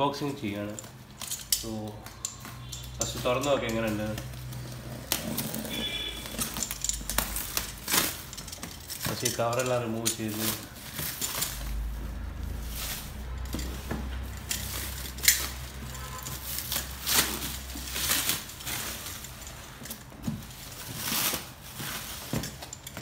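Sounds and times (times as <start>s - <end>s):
plastic wrap crinkling: 0.0s - 23.0s
sharp plastic crackle: 0.4s - 23.0s.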